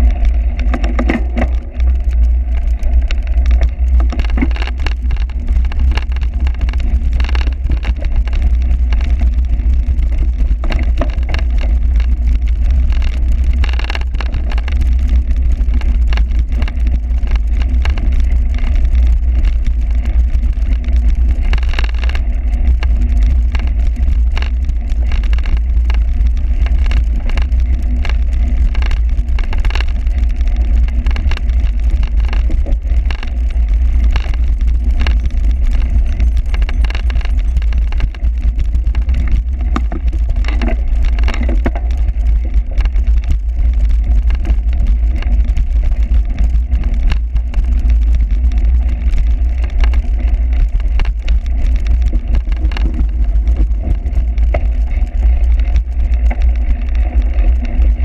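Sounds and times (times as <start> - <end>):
bicycle rattling and knocking: 0.0 - 58.0.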